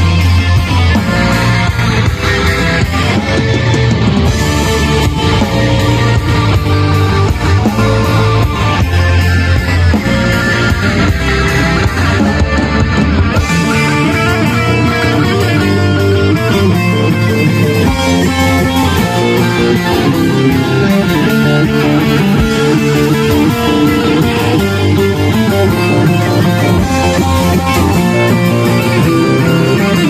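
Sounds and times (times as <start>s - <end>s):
live metal band playing: 0.0s - 30.0s.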